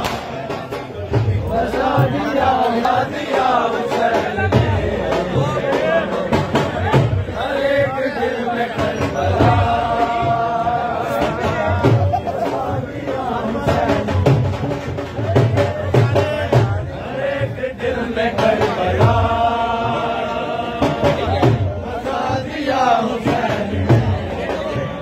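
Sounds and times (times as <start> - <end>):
men chanting together: 0.0 - 25.0
rhythmic low beat: 0.0 - 25.0.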